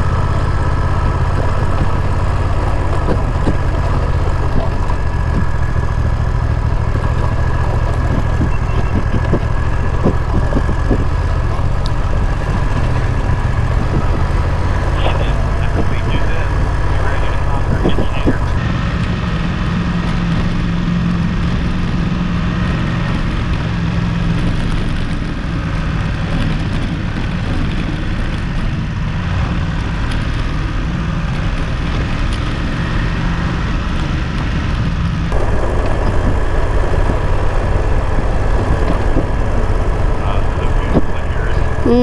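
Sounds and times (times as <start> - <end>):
motorcycle engine running: 0.0 - 42.0
wind rushing over microphone: 0.0 - 42.0.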